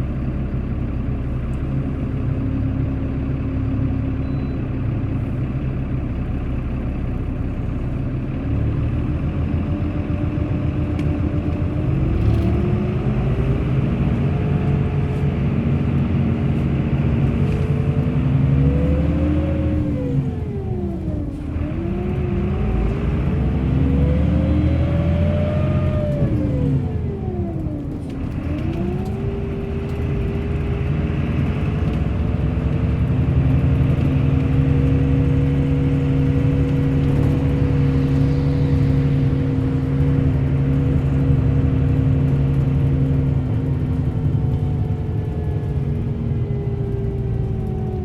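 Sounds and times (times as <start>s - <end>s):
bus engine running: 0.0s - 48.0s.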